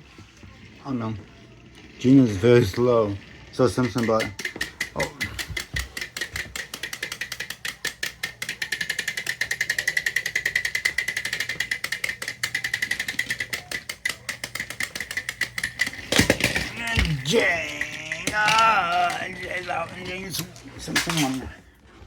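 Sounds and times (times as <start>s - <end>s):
toy train motors whining: 0.0s - 22.0s
rapid gearbox clicking: 2.0s - 21.4s.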